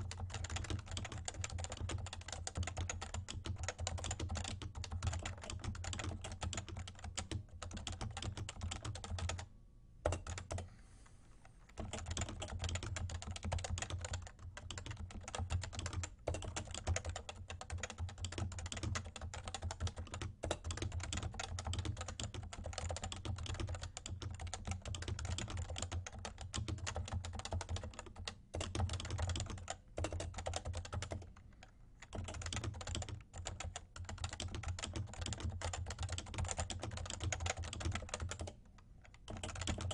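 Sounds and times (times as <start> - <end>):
fast typing on keyboard: 0.0 - 9.5, 10.1 - 10.6, 11.8 - 31.4, 32.0 - 39.9.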